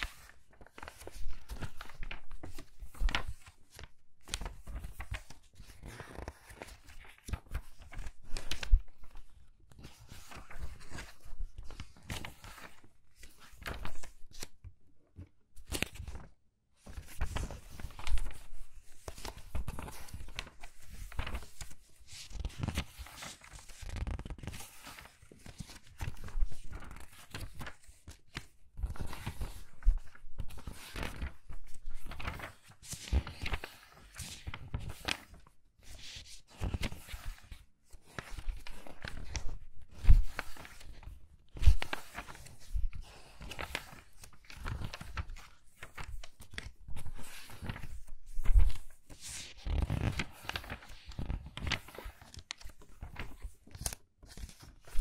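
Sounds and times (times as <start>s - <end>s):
magazine pages turning: 0.0s - 14.6s, 15.6s - 55.0s.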